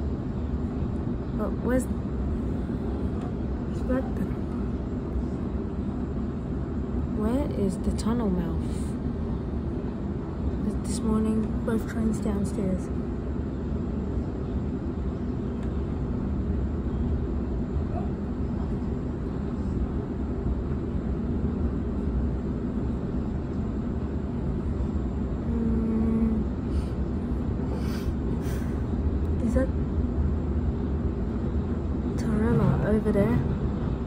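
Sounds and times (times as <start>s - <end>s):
train rumbling from inside carriage: 0.0s - 34.0s.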